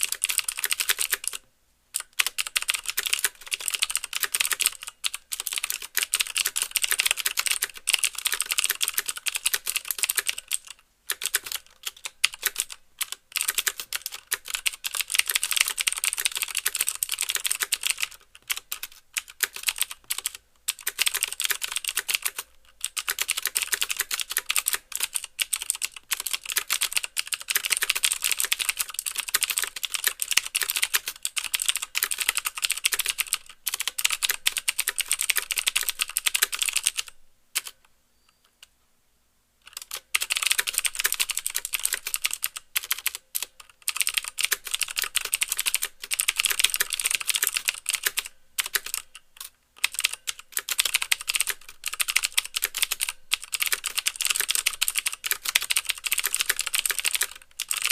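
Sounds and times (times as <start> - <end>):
mechanical keyboard typing: 0.0 - 1.4, 2.0 - 37.8, 39.7 - 57.9.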